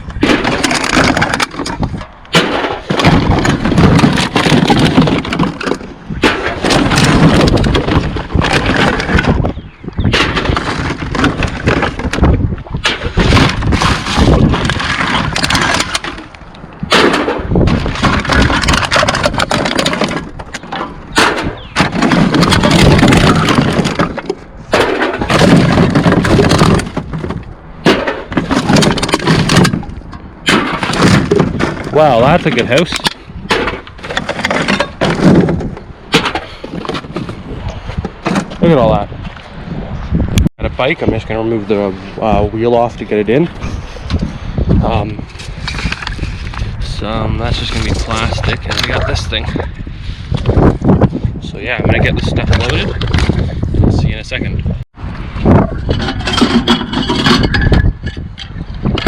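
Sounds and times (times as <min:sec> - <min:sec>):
cans and scrap metal rattling: 0:00.0 - 0:37.4, 0:44.9 - 0:49.7, 0:52.0 - 0:53.6, 0:55.5 - 0:59.0.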